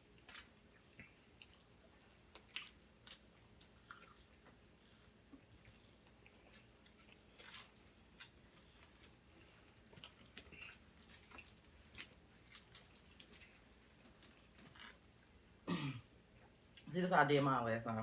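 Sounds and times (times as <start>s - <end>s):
faint chewing and crunching: 0.0s - 17.0s.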